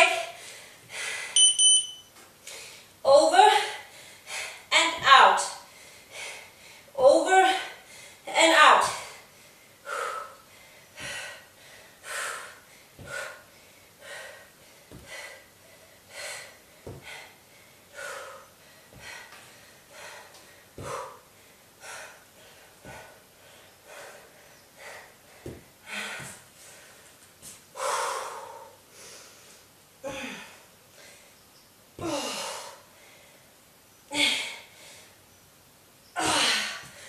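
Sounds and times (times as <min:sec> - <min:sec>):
woman breathing heavily: 0:00.0 - 0:01.4, 0:02.4 - 0:31.4, 0:32.0 - 0:35.2, 0:36.2 - 0:37.0.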